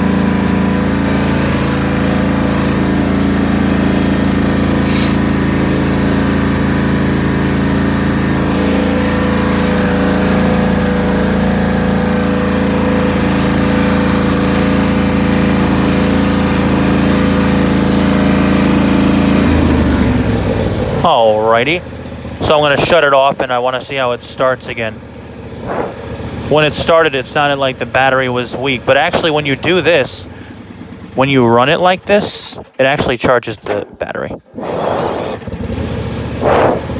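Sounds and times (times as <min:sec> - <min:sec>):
small gasoline engine running: 0:00.0 - 0:32.8, 0:34.5 - 0:36.9.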